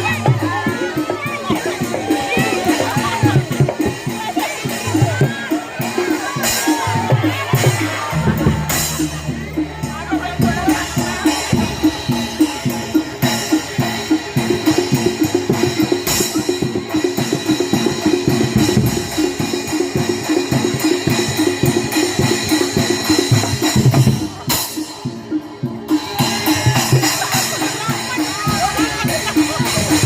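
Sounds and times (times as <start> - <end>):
fast driving drumming: 0.0 - 30.0.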